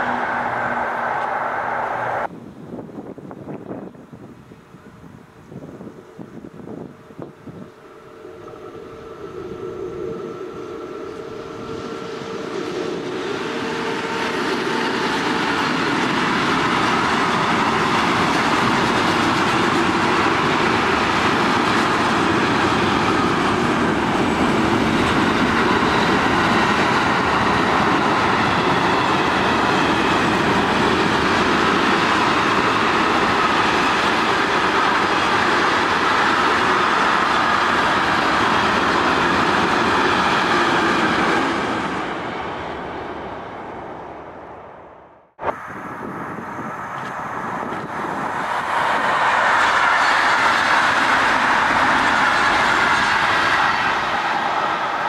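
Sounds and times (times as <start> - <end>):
freight train wheels rumbling on rails: 0.0 - 4.0, 5.8 - 44.6, 45.9 - 55.0.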